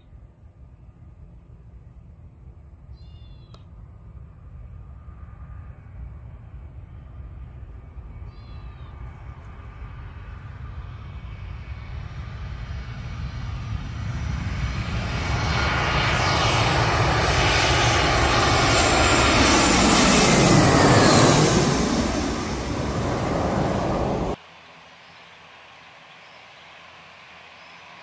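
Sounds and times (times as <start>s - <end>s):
airliner passing overhead: 0.0s - 28.0s.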